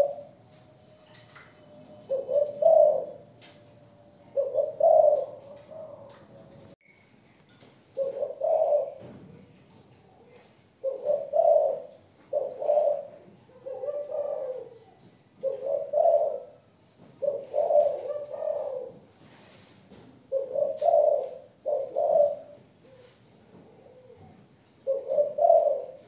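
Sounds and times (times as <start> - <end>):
dove cooing: 0.0 - 6.8, 7.9 - 19.5, 20.2 - 26.0.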